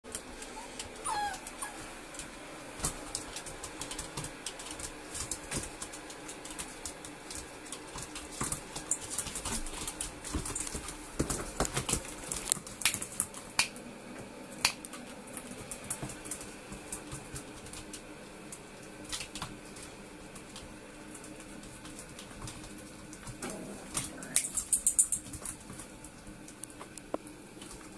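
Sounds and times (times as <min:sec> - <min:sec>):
dog claws clicking on tiles: 0:00.1 - 0:13.7, 0:19.0 - 0:27.9.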